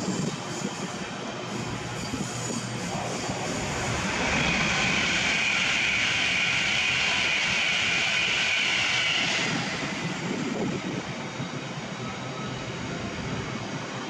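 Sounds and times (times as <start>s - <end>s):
express train rushing past: 0.0s - 14.0s.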